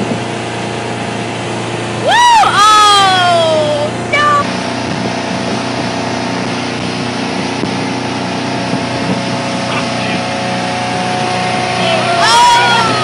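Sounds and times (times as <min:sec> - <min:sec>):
motorboat engine running: 0:00.0 - 0:13.0
wind and water rushing: 0:00.0 - 0:13.0.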